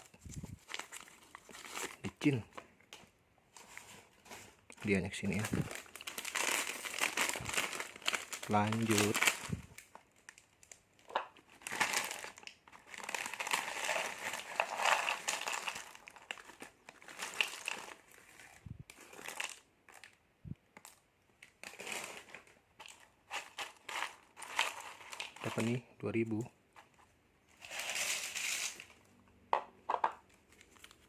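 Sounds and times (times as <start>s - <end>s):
plastic snack packets crinkling: 0.0s - 26.4s, 27.5s - 29.2s, 30.1s - 31.0s.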